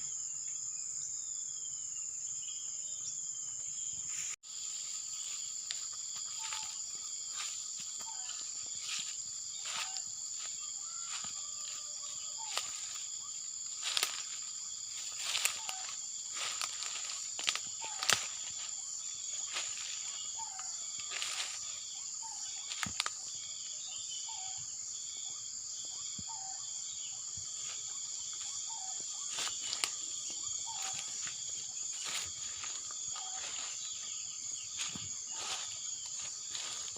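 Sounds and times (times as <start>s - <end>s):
crickets and insects chirping: 0.0s - 36.9s.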